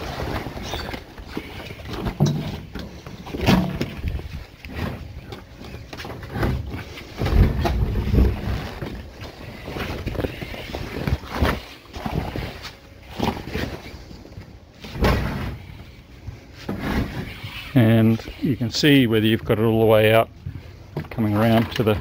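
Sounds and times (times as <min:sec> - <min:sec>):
bumps and scrapes: 0:00.0 - 0:22.0.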